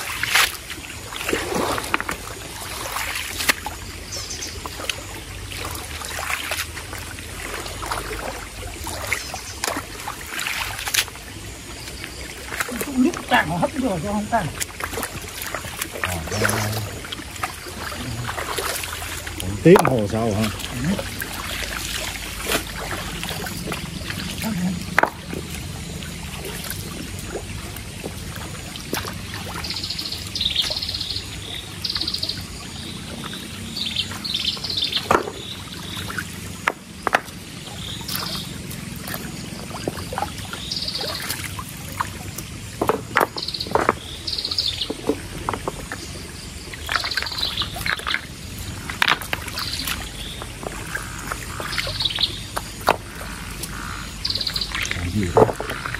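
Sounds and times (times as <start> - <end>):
splashes and knocks: 0.0 - 31.5, 34.0 - 55.9
stream flowing: 0.0 - 55.9
birds chirping: 0.9 - 55.9.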